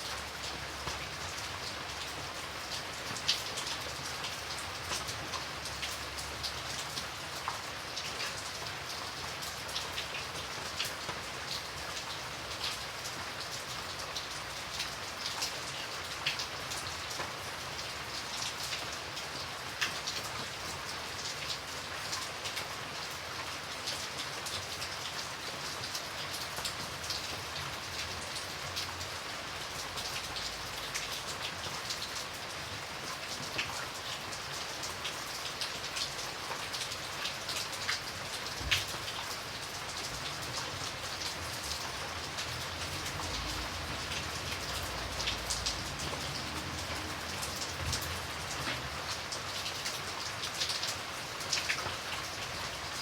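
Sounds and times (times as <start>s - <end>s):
rain falling: 0.0s - 53.0s
raindrops pattering on a surface: 0.0s - 53.0s.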